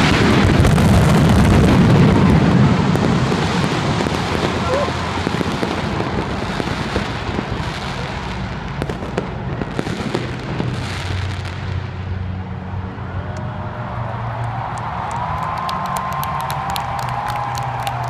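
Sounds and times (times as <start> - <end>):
fireworks crackling and popping: 0.0 - 12.4, 14.4 - 18.0.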